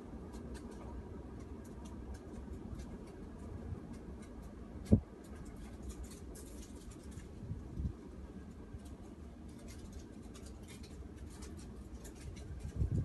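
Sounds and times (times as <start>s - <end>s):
faint ticks and crackles: 0.0s - 13.0s
low wind rumble: 0.0s - 13.0s.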